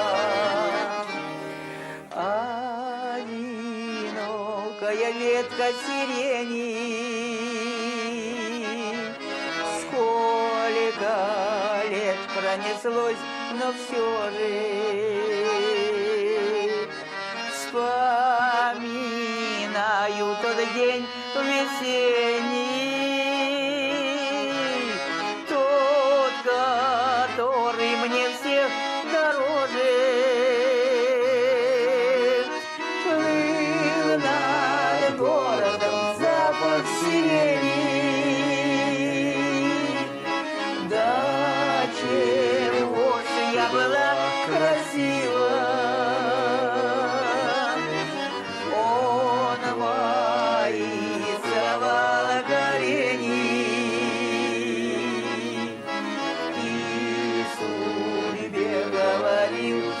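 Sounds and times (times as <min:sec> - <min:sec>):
accordion melody: 0:00.0 - 1:00.0.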